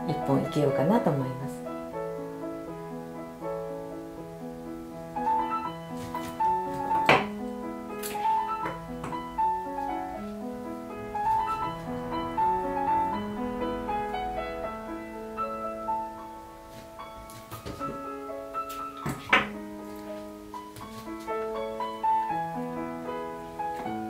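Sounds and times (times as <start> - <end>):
slow solo piano melody: 0.0 - 24.0.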